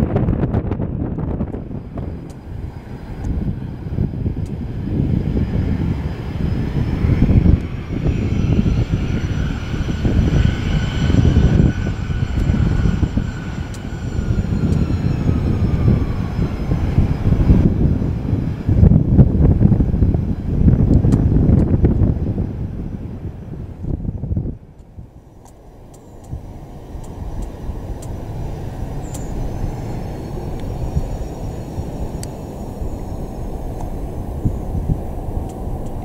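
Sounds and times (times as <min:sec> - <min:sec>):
jet engine whine: 0:00.0 - 0:36.0
wind rumble on microphone: 0:00.0 - 0:36.0.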